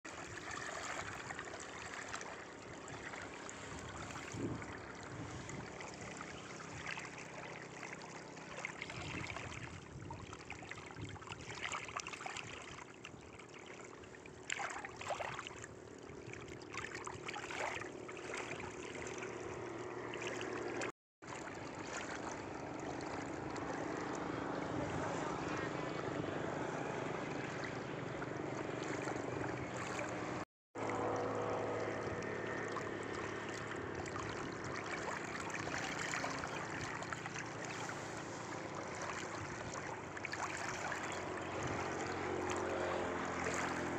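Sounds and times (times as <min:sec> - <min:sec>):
water lapping and trickling: 0:00.0 - 0:43.9
short water splashes: 0:00.1 - 0:43.9.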